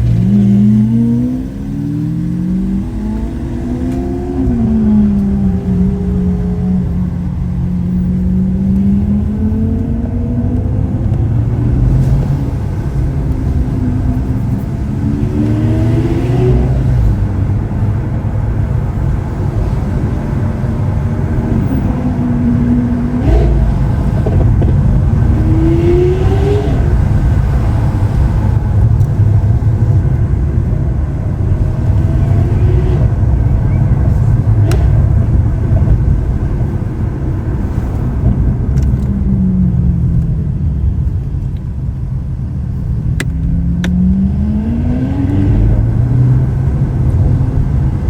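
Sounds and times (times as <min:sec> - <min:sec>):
low engine rumble: 0:00.0 - 0:48.0
sports car engine accelerating: 0:00.0 - 0:48.0.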